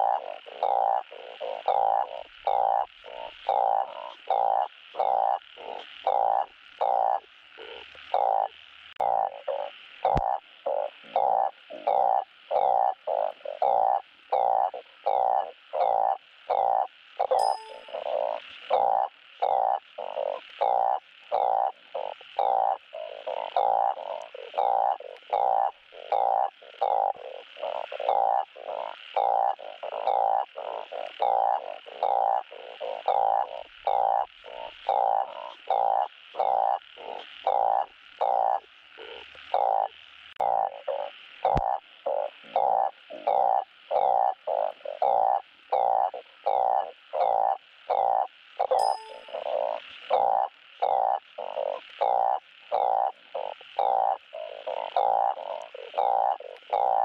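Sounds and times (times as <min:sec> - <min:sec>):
frog croaking: 0:00.0 - 0:57.0.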